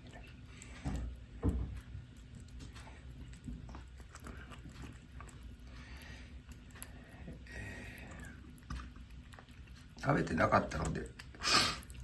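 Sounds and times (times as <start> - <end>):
kitten chewing and lapping: 0.0 - 12.0.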